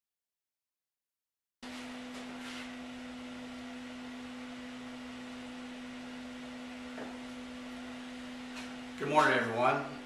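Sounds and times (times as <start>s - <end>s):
steady hum: 1.6s - 10.0s.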